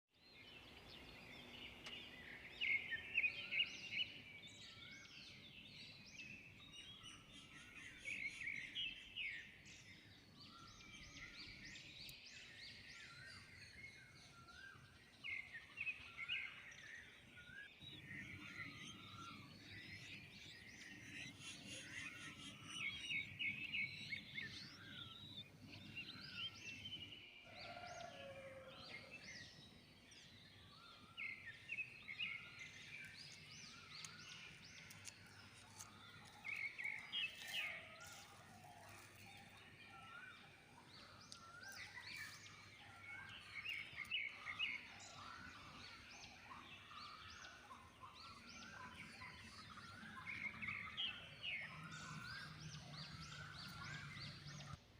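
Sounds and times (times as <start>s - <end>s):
small birds chirping and trilling: 0.2s - 54.9s.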